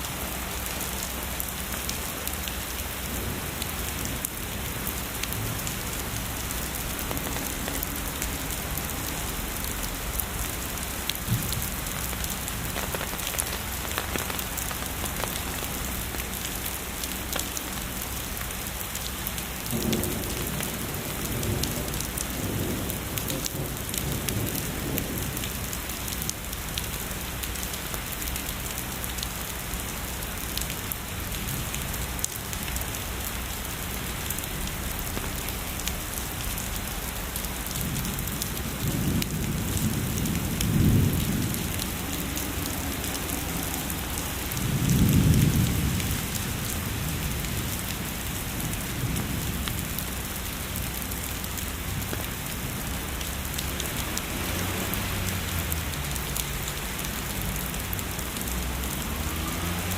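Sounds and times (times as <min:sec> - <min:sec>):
heavy rain falling: 0:00.0 - 0:59.9
rain drop impacts: 0:00.0 - 0:59.9.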